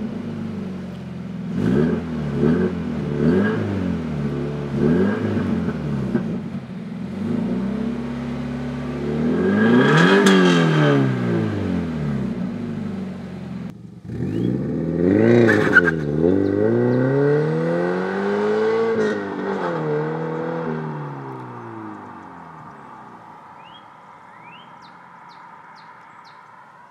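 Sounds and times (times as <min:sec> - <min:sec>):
car engine revving: 0:00.0 - 0:26.6.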